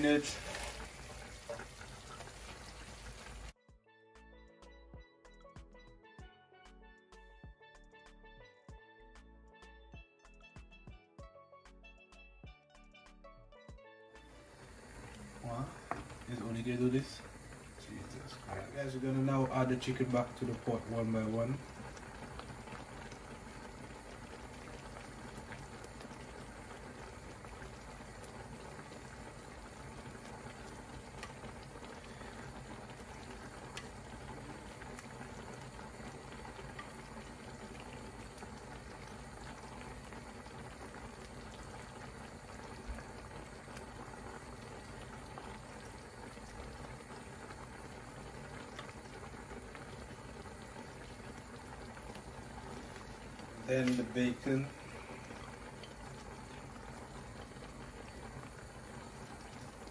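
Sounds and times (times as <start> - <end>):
sauce simmering in skillet: 0.0 - 3.6, 14.2 - 59.9.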